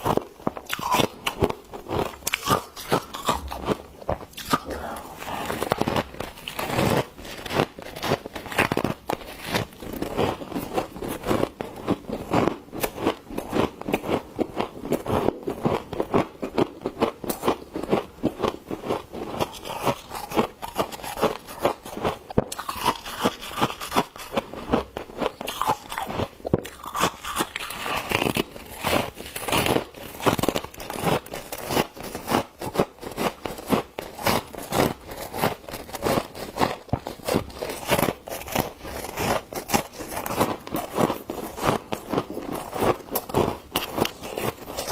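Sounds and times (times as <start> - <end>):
frost crunching: 0.0 - 14.0, 19.4 - 24.7, 25.4 - 44.9.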